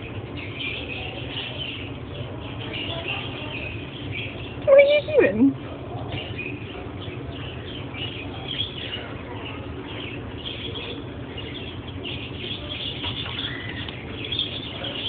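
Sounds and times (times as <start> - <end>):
birds chirping: 0.0 - 15.0
low background hum: 0.0 - 15.0.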